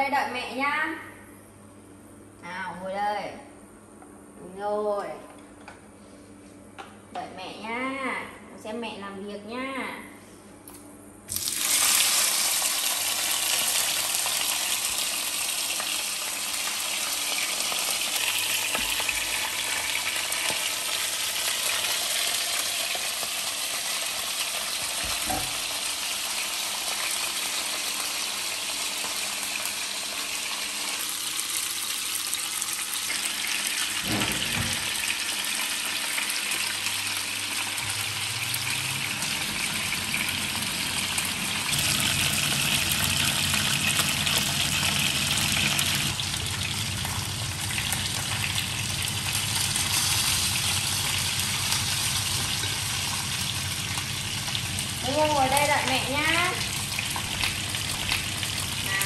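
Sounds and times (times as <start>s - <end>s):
fish sizzling in hot oil: 11.3s - 59.0s.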